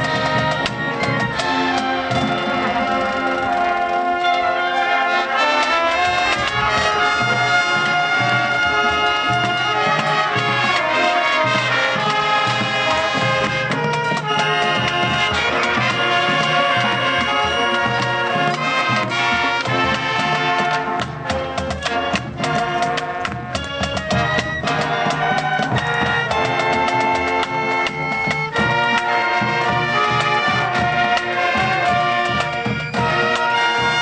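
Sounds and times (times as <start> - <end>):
marching band playing: 0.0 - 34.0
sharp accented percussion hits: 5.3 - 34.0.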